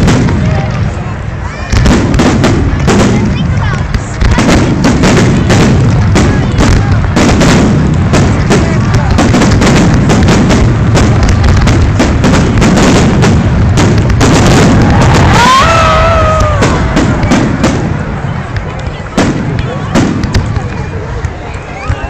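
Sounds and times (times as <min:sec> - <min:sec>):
firework explosions: 0:00.0 - 0:22.0.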